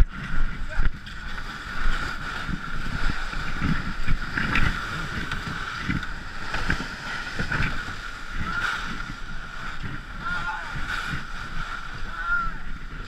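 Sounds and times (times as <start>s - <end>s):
canoe hull scraping over snow: 0.0s - 13.0s.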